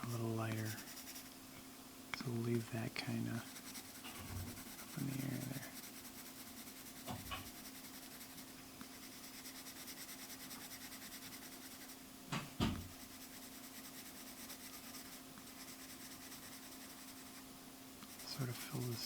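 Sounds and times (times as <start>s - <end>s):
pencil scratching on paper: 0.0s - 1.3s, 3.4s - 12.0s, 12.8s - 19.0s
steady low hum: 0.0s - 19.0s.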